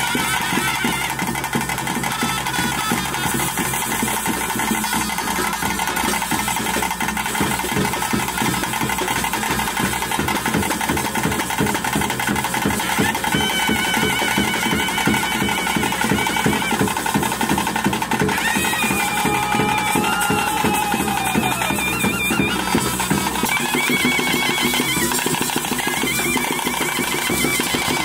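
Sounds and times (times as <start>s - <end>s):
fast steady drumming: 0.0s - 28.0s
piping wind instrument tune: 0.0s - 28.0s.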